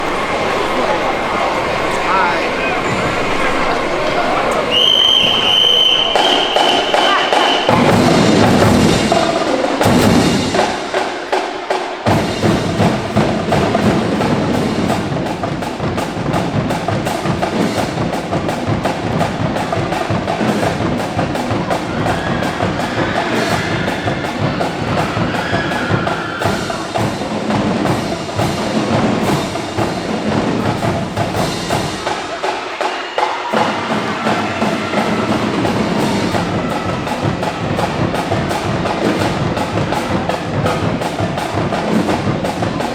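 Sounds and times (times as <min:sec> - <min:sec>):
snare drums: 0:00.0 - 0:42.9
tenor drums: 0:00.0 - 0:42.9.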